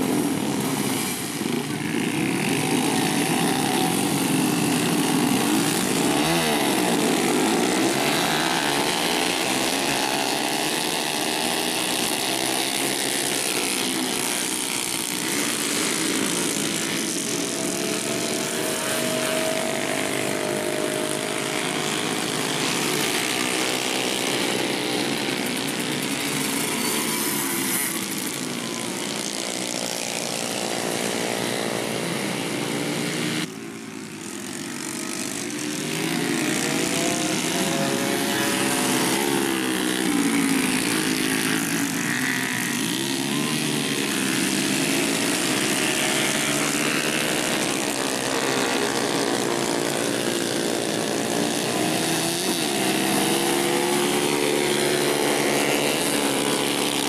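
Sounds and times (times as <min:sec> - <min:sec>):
motorcycle engines revving past: 0:00.0 - 0:57.0
steady engine buzz: 0:00.0 - 0:57.0.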